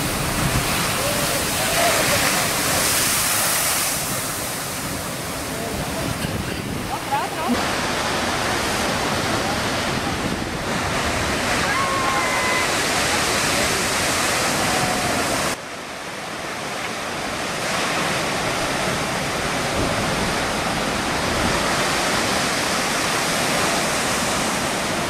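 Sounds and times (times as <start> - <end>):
waves crashing against seawall: 0.0 - 25.0.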